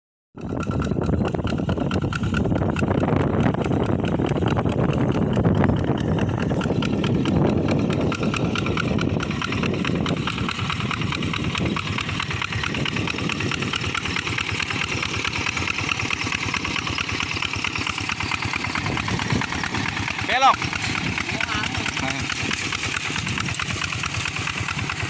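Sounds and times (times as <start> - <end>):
tractor engine chugging: 0.4 - 25.0.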